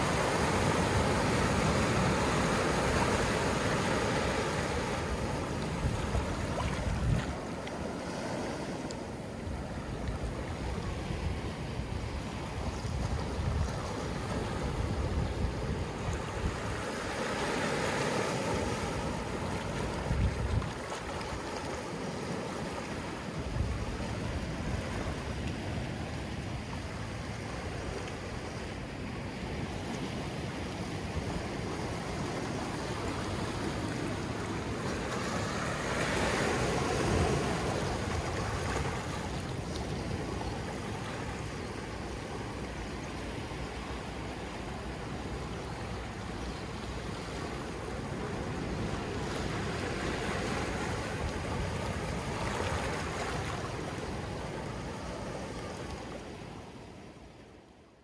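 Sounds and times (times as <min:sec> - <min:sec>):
waves washing over rocks: 0:00.0 - 0:57.1.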